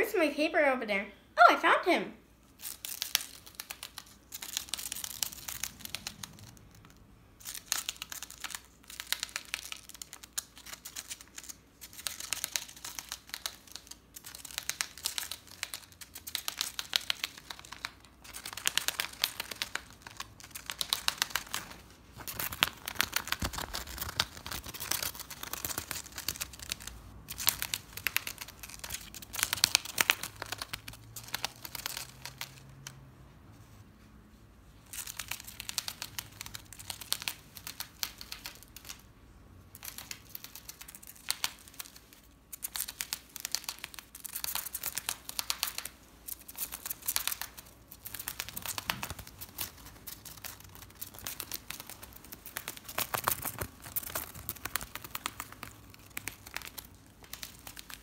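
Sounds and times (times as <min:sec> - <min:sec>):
gerbil gnawing paper: 0:02.5 - 0:33.1, 0:34.8 - 0:39.1, 0:39.7 - 0:58.0.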